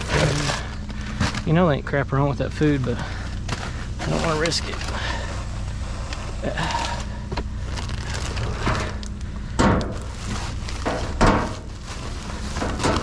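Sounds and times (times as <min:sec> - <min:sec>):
steady low hum: 0:00.0 - 0:13.0
trash bags rustling and clunking: 0:00.0 - 0:13.0.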